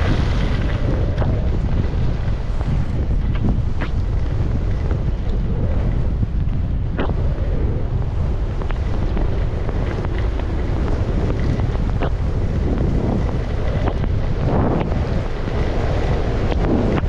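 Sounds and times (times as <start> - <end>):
skis sliding on snow: 0.0 - 17.0
wind buffeting microphone: 0.0 - 17.0.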